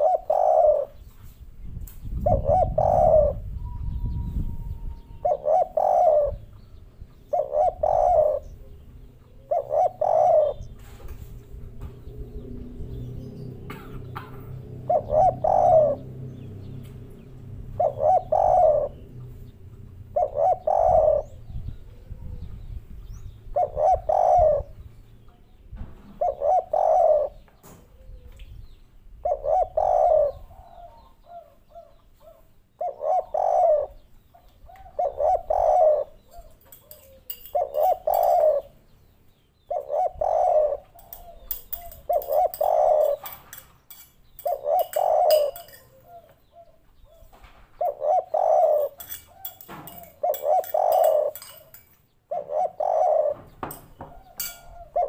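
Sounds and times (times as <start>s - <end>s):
dove cooing: 0.0s - 1.1s, 2.1s - 25.0s, 26.0s - 28.5s, 29.2s - 55.0s.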